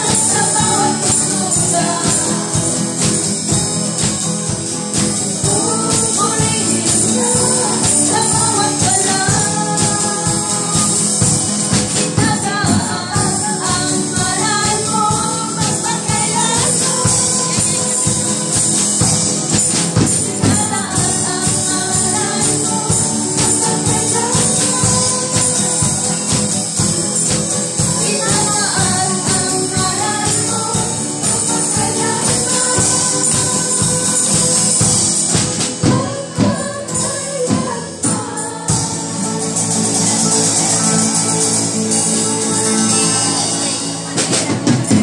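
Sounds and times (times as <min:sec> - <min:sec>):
drum kit: 0:00.0 - 0:45.0
keyboard: 0:00.0 - 0:45.0
strummed acoustic guitar: 0:00.0 - 0:45.0
voices singing: 0:00.0 - 0:45.0.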